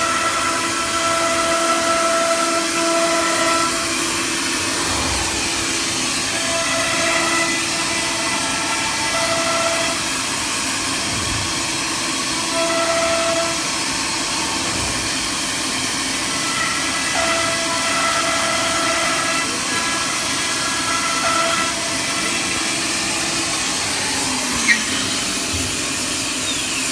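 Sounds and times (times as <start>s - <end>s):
cnc router running: 0.0s - 26.9s.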